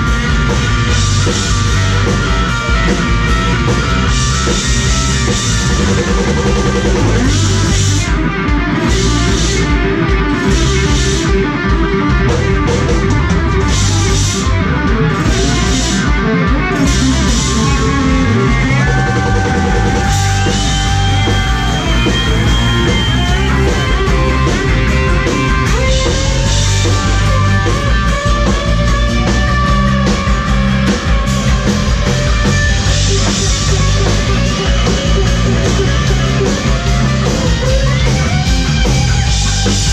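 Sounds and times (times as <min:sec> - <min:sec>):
lead electric guitar: 0:00.0 - 0:39.9
rock band playing: 0:00.0 - 0:39.9.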